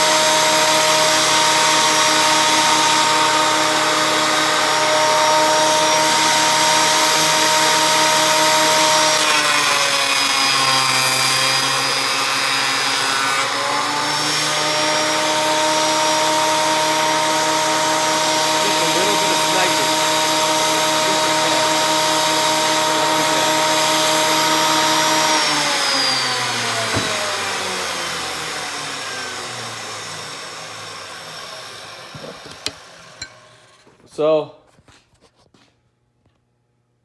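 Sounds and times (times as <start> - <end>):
thickness planer motor whine: 0.0 - 33.9.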